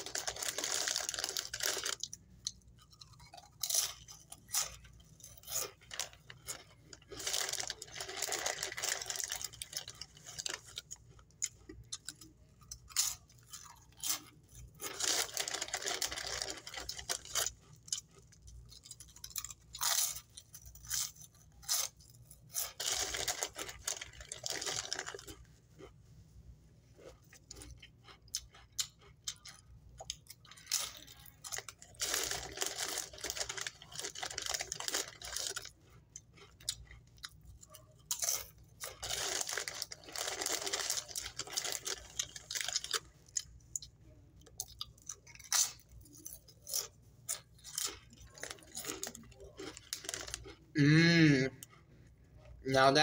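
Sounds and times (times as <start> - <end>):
chip bag crinkling: 0.0 - 25.4, 28.5 - 35.8, 37.7 - 43.5, 44.5 - 50.6
tortilla chips crunching: 0.0 - 26.0, 27.0 - 50.9.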